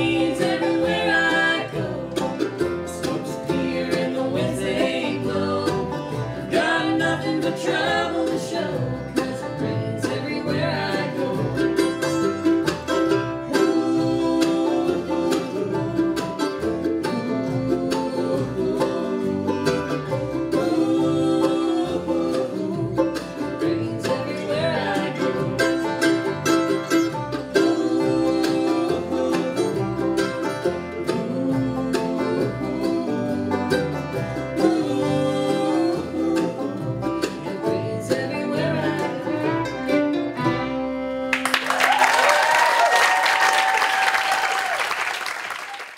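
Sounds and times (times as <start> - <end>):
acoustic guitar: 0.0 - 42.0
fiddle: 0.0 - 42.8
mandolin: 0.0 - 45.0
banjo: 0.0 - 45.8
upright bass: 0.0 - 45.8.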